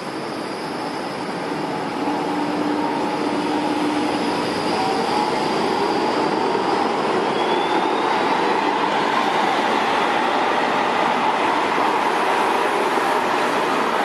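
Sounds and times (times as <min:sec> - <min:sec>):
tram wheels rumbling on rail: 0:00.0 - 0:14.0.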